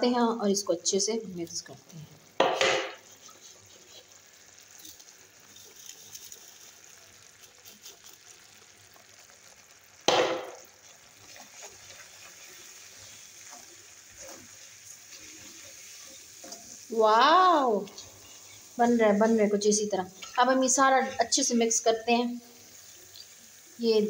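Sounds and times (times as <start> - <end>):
syrup sizzling and bubbling: 0.0 - 24.0.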